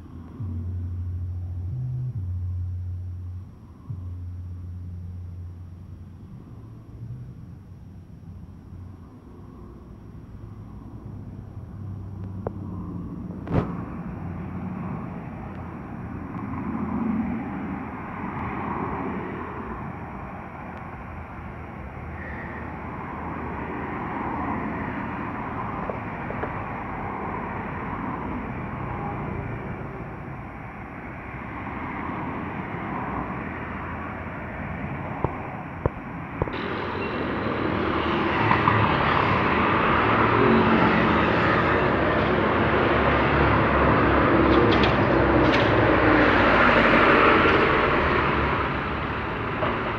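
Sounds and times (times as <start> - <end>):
airliner engine drone: 0.0 - 49.9.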